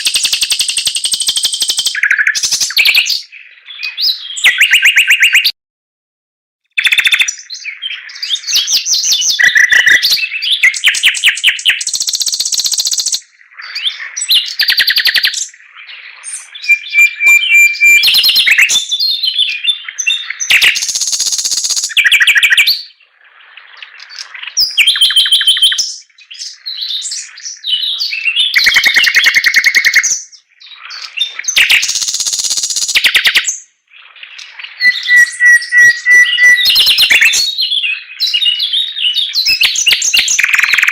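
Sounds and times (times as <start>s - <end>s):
songbird whistling and trilling: 0.0s - 5.5s, 6.8s - 23.0s, 23.8s - 40.9s.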